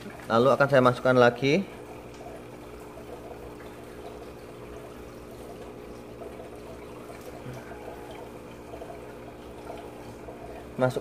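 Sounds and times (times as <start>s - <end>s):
aquarium air bubbling: 0.0s - 11.0s
steady low hum: 0.0s - 11.0s.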